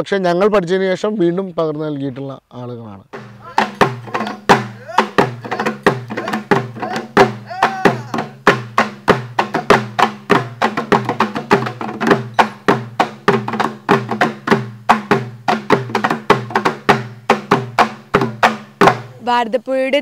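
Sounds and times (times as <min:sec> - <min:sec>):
barrel drums played fast: 0:03.2 - 0:19.5.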